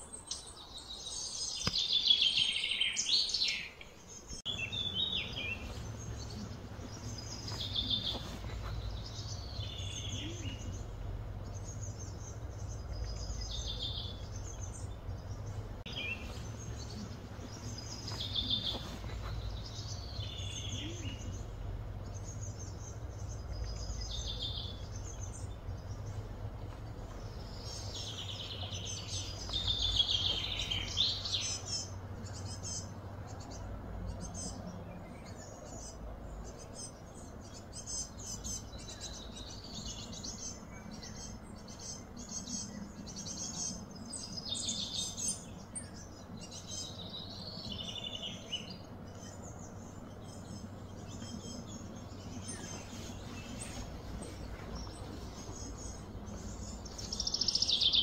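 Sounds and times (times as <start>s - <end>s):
birds chirping: 0.0s - 58.0s
steady low hum: 4.0s - 58.0s.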